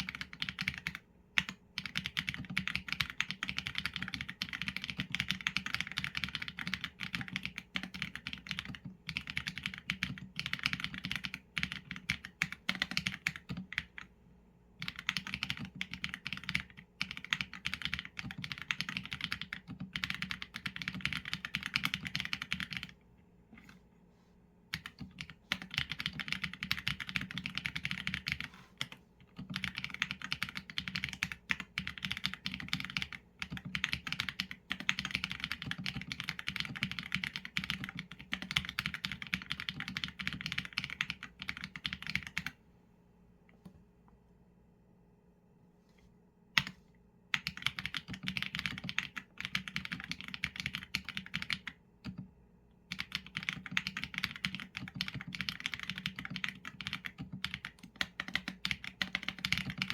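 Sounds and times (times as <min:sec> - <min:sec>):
mechanical keyboard typing: 0:00.0 - 0:14.1, 0:14.8 - 0:23.0, 0:24.7 - 0:42.6, 0:46.6 - 0:52.3, 0:52.9 - 0:59.9.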